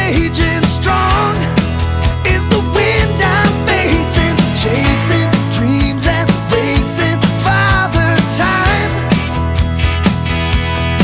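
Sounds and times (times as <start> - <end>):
instrumental pop-rock music: 0.0 - 11.0.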